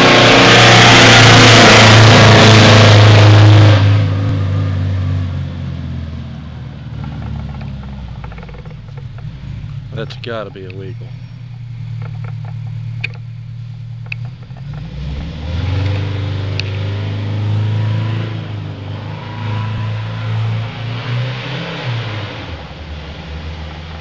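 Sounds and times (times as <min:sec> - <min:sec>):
diesel truck engine accelerating: 0:00.0 - 0:24.0.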